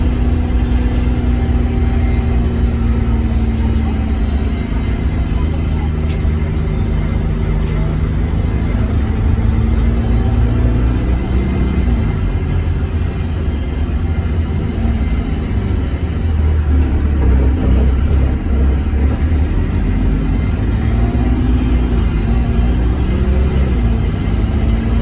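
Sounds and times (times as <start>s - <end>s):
bus diesel engine rumbling: 0.0s - 25.0s.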